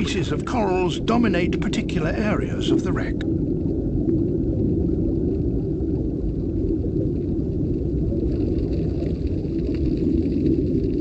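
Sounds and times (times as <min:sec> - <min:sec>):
low underwater rumble: 0:00.0 - 0:11.0.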